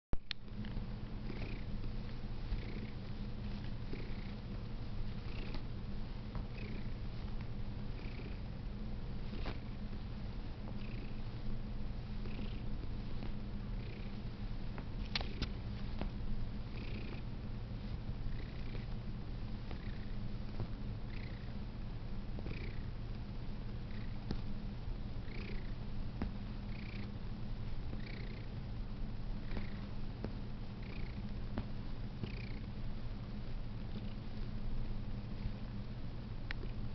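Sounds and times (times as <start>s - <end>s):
cat purring: 0.5s - 35.7s.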